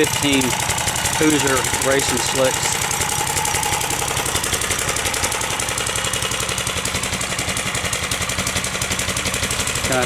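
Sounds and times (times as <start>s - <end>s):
single-cylinder engine running: 0.0s - 10.0s.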